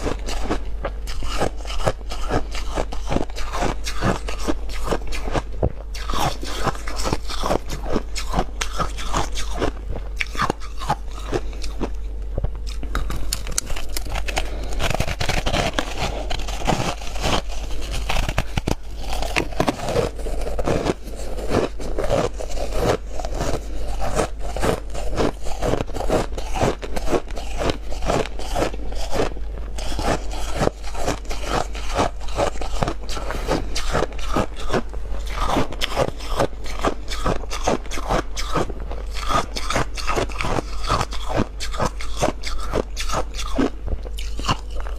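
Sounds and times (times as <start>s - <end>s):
crunching and chewing frost: 0.0s - 44.9s.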